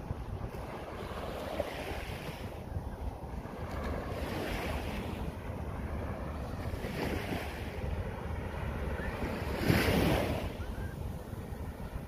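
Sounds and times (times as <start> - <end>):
sea waves washing onto beach: 0.0 - 12.0
wind rumbling on microphone: 0.0 - 12.0.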